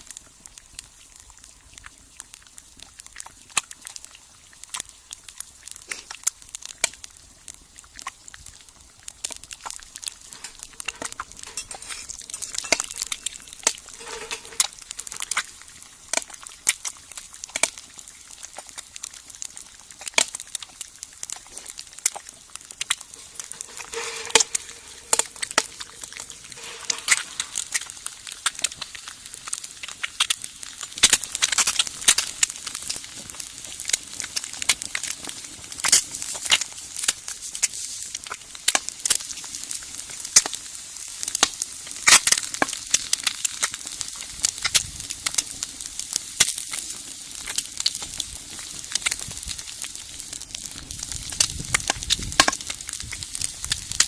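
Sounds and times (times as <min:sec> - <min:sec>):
food sizzling in a pan: 0:00.0 - 0:54.0
wood fire crackling and popping: 0:00.0 - 0:54.0.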